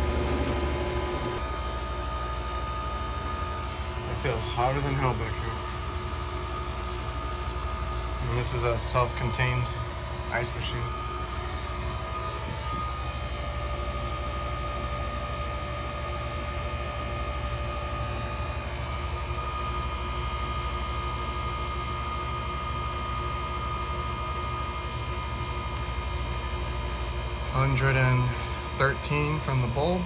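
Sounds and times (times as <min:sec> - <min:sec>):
ice machine humming: 0:00.0 - 0:30.0.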